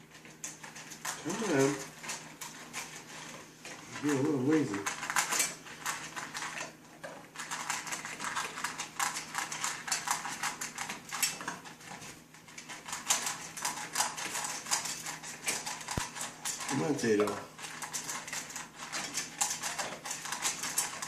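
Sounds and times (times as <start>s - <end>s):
dog eating from a bowl: 0.0s - 21.0s.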